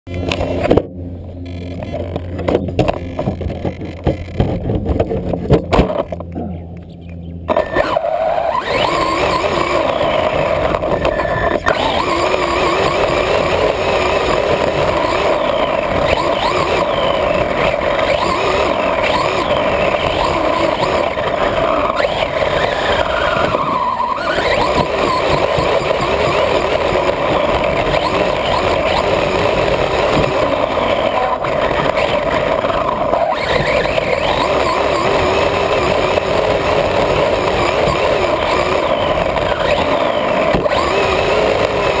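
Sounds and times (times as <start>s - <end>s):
toy car motor whining: 7.5s - 42.0s.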